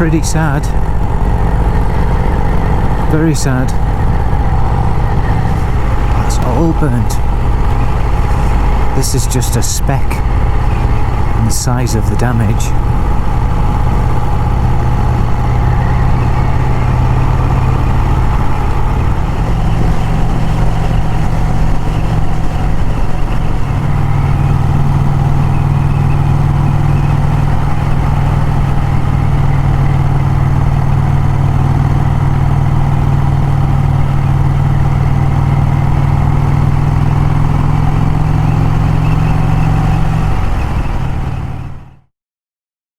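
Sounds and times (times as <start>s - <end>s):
motorcycle engine cruising: 0.0s - 42.1s.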